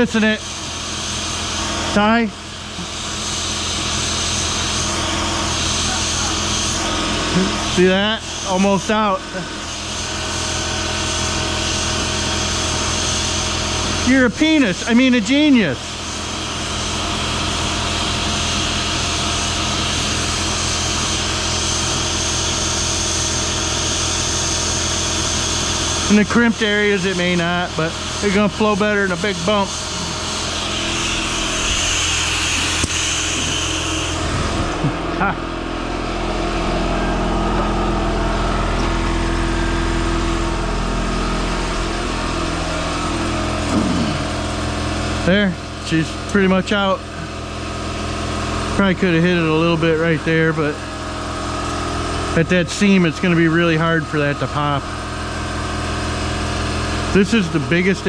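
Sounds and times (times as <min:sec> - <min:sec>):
mechanical hum with hissing rush: 0:00.0 - 0:58.0.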